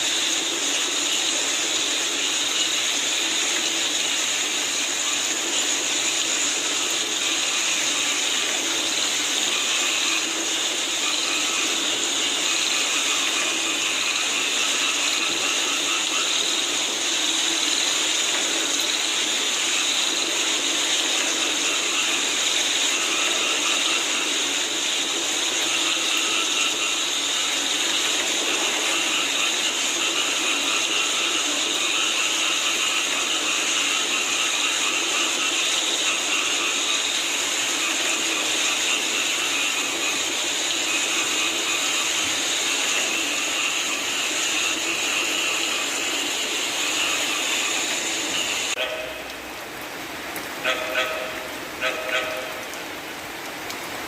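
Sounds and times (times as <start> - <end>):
chorus of frogs calling: 0.0 - 52.9
steady rain falling: 0.0 - 54.0.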